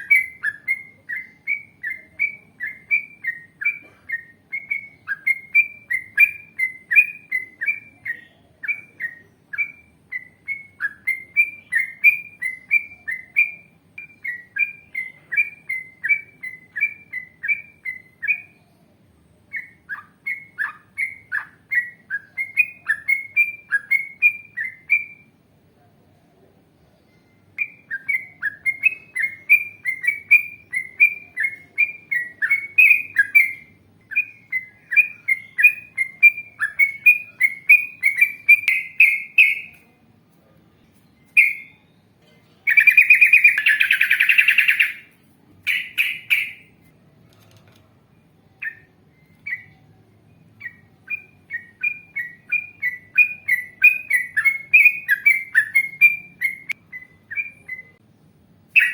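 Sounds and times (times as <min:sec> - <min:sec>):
bird chirping rapidly: 0:00.0 - 0:18.6, 0:19.5 - 0:25.4, 0:27.4 - 0:39.9, 0:41.2 - 0:42.0, 0:42.7 - 0:46.8, 0:48.5 - 0:58.0.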